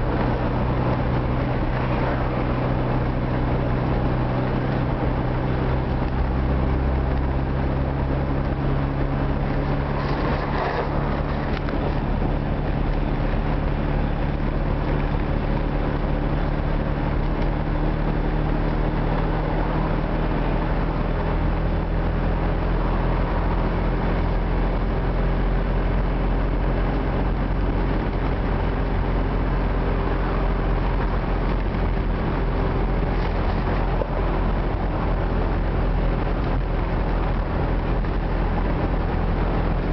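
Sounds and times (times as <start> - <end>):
car engine droning: 0.0 - 39.9
tyre and road noise: 0.0 - 39.9.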